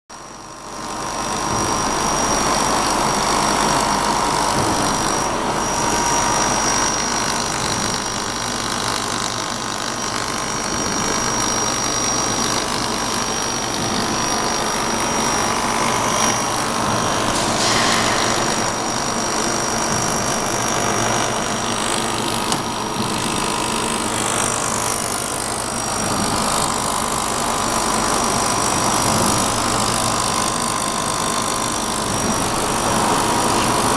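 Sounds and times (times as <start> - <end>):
welding machine hum with whine: 0.1 - 33.9.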